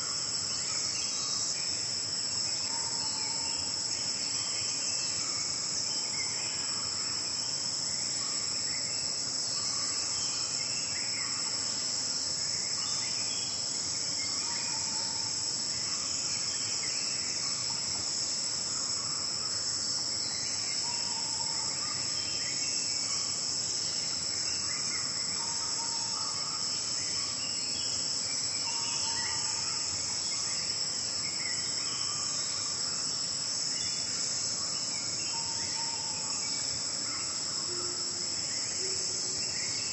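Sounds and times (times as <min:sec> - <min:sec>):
insect chorus shrill drone: 0:00.0 - 0:39.9.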